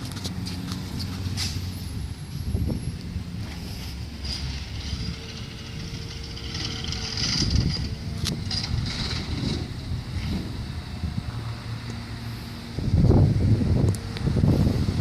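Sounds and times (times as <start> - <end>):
garbage truck engine rumble: 0.0 - 15.0.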